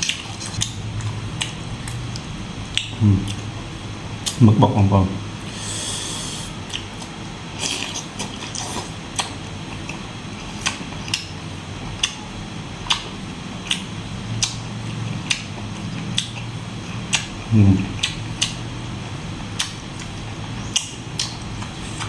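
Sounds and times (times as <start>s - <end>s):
person chewing: 0.0s - 3.5s, 4.2s - 4.4s, 5.4s - 14.6s, 15.2s - 18.7s, 19.5s - 22.0s.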